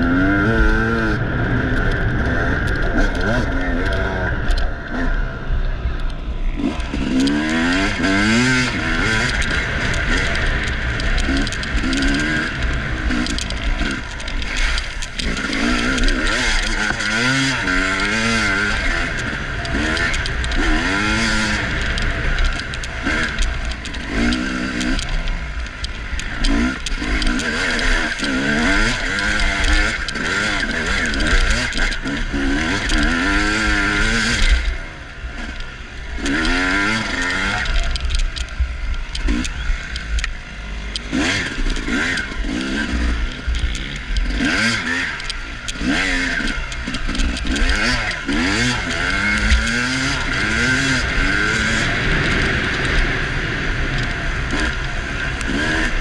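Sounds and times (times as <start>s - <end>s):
dirt bike engine revving: 0.0s - 56.0s
camera hiss and rattle: 5.6s - 56.0s.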